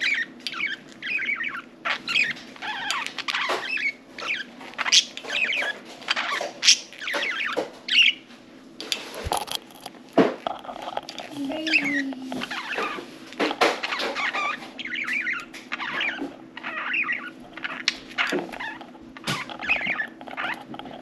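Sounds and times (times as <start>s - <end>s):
budgerigars chirping and chattering: 0.0s - 8.3s, 11.5s - 21.0s.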